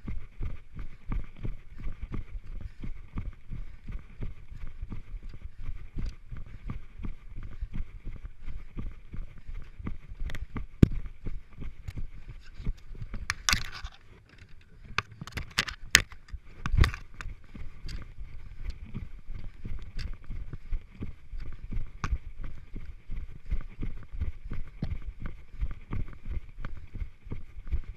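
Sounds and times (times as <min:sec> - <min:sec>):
running footsteps on grass: 0:00.0 - 0:27.9.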